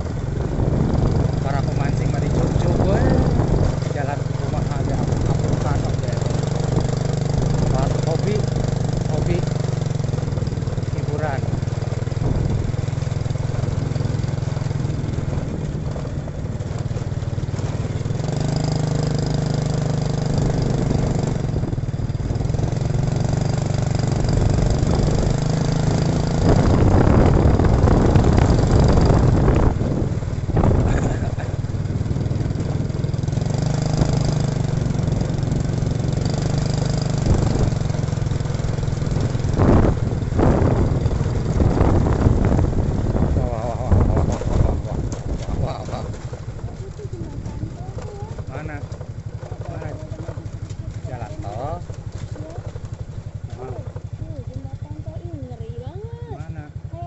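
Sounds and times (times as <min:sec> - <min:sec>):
wind over microphone: 0:00.0 - 0:17.0, 0:20.4 - 0:52.7
motorcycle engine running: 0:00.0 - 0:57.0.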